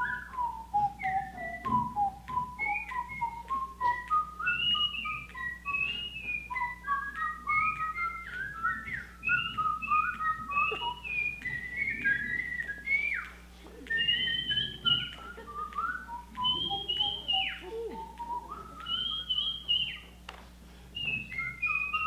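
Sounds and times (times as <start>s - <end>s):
person whistling a tune: 0.0s - 20.2s, 21.0s - 22.0s.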